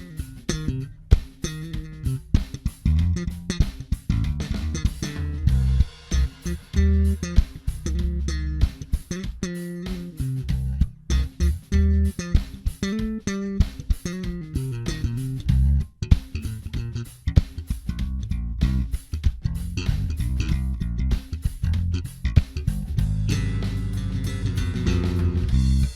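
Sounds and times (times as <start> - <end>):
electric bass guitar notes: 0.0 - 25.9.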